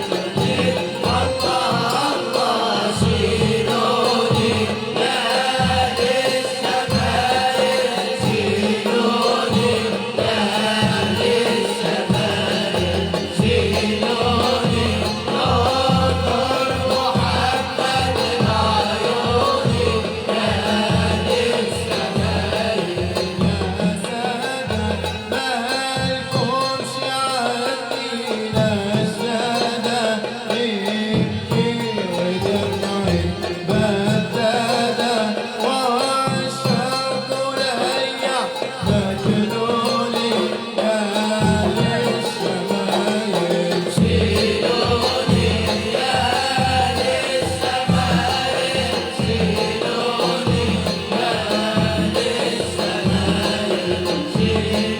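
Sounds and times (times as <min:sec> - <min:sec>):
hand drum beats: 0:00.0 - 0:54.9.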